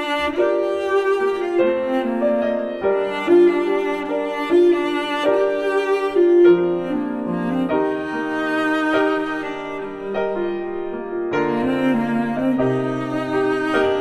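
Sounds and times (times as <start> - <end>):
bowed strings: 0.0 - 14.0
piano: 0.0 - 14.0.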